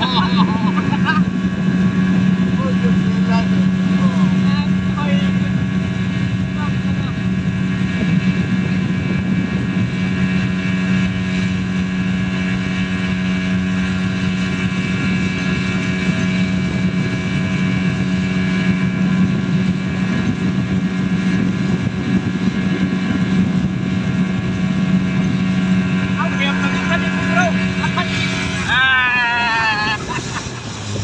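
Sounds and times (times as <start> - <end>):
outboard motor droning: 0.0 - 31.0
wind on microphone: 0.0 - 31.0.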